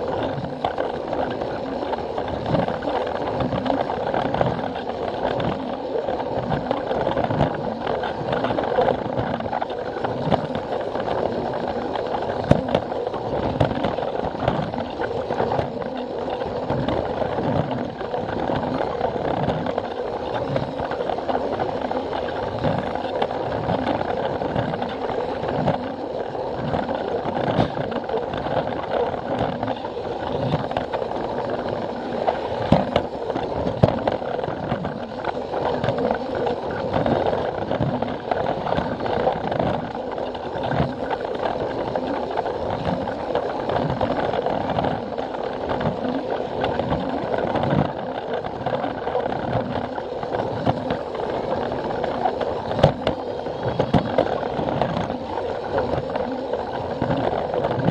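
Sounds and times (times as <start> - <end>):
plastic wheels clacking on track: 6.4 - 57.9.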